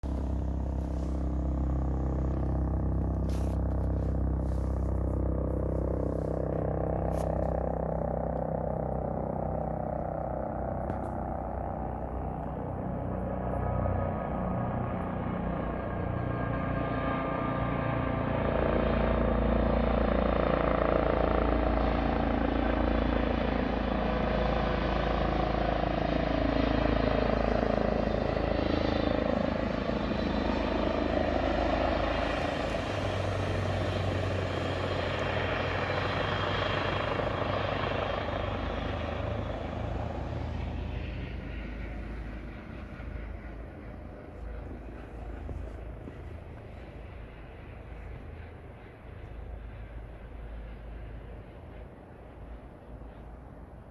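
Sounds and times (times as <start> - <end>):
helicopter flying over: 0.0 - 53.9.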